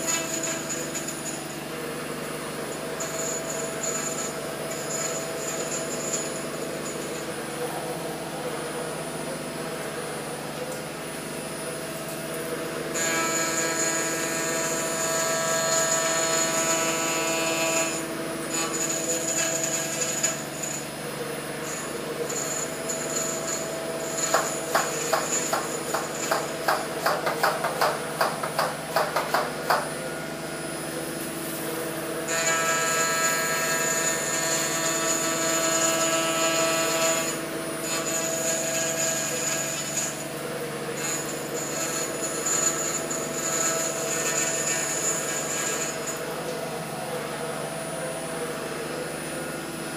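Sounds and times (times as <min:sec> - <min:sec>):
router spindle cutting whine: 0:00.0 - 0:49.9.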